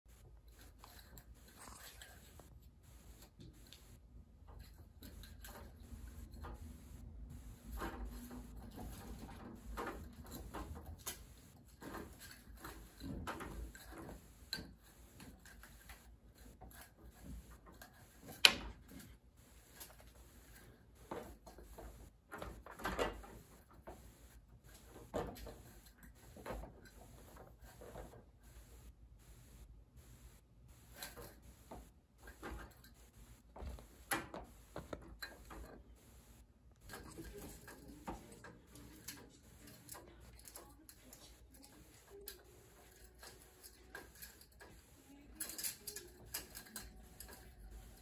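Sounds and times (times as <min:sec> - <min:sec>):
window blind slats rattling: 0:04.5 - 0:28.7, 0:30.8 - 0:48.0.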